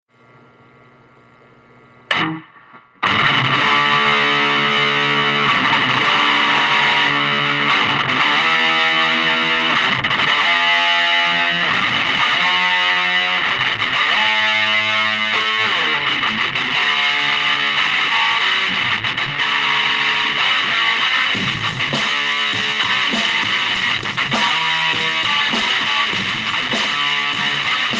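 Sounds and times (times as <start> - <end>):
distorted electric guitar chords: 2.1 - 27.9.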